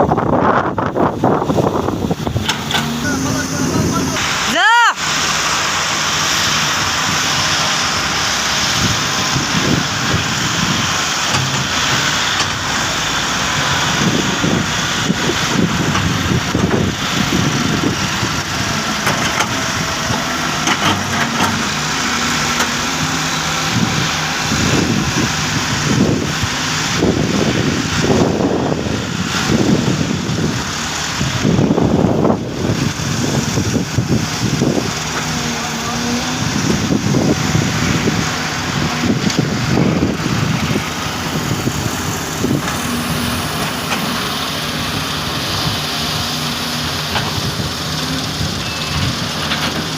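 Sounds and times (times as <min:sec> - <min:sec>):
excavator diesel engines running: 0:00.0 - 0:49.9.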